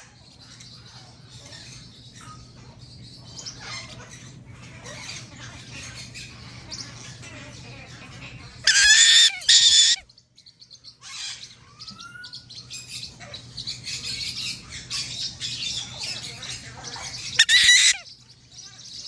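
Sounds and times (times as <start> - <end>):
parrots chirping and chattering: 0.0 - 19.0
baby parrots squawking: 0.1 - 10.1, 10.8 - 19.0.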